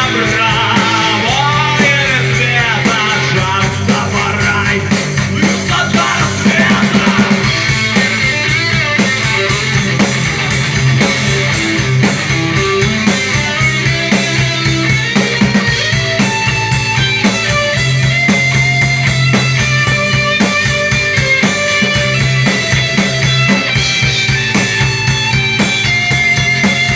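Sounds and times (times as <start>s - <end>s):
instrumental rock music: 0.0s - 26.9s.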